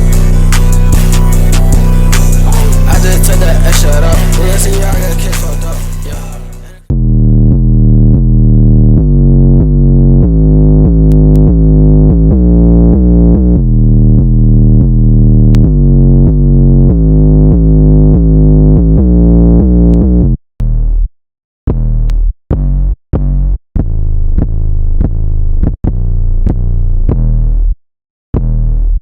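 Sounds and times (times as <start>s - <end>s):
muffled synth melody with heavy bass: 0.0s - 21.1s, 21.7s - 27.8s.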